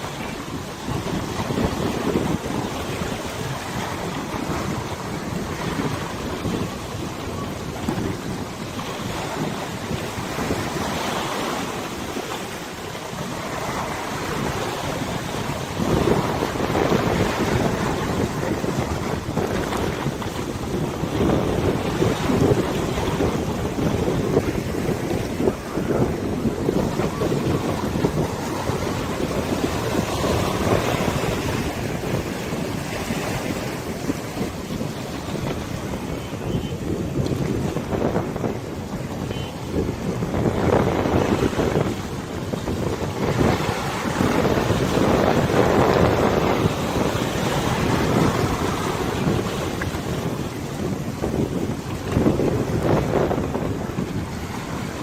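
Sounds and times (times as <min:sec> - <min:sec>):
river water lapping: 0:00.0 - 0:55.0
wind buffeting microphone: 0:00.0 - 0:55.0.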